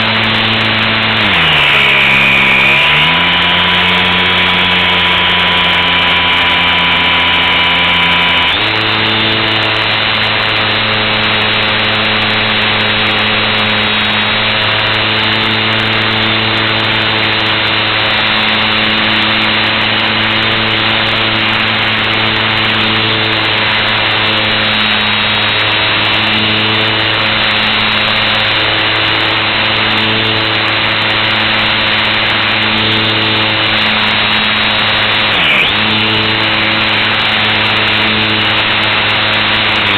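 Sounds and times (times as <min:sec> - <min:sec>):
model plane motor drone: 0:00.0 - 0:39.9.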